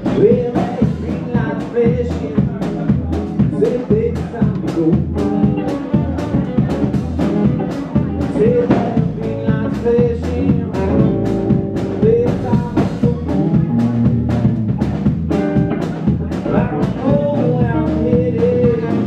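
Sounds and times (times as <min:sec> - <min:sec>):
drum kit steady beat: 0:00.0 - 0:19.0
electric guitars: 0:00.0 - 0:19.0.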